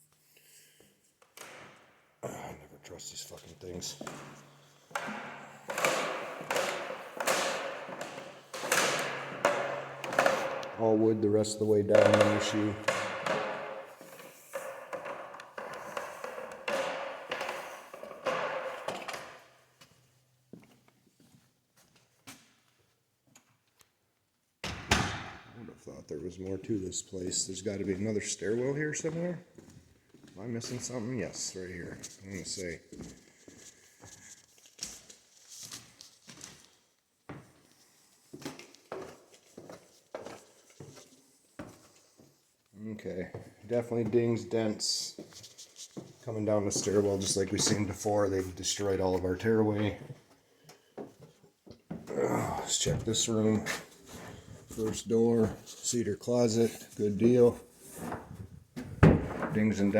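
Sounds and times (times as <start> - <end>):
footsteps knocking and scuffing: 3.3 - 22.6, 28.9 - 31.1, 31.9 - 42.4, 43.2 - 55.9, 56.5 - 59.9.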